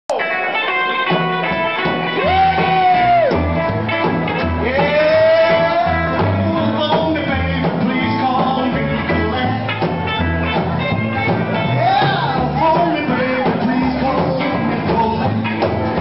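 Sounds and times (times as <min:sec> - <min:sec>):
bass line: 0:00.1 - 0:16.0
drums: 0:00.1 - 0:16.0
electric guitar: 0:00.1 - 0:16.0
man singing: 0:02.2 - 0:03.6, 0:04.3 - 0:16.0.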